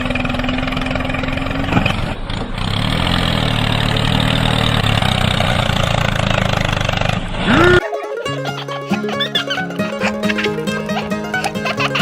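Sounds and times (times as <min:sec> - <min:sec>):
tractor engine starting and idling: 0:00.0 - 0:12.0.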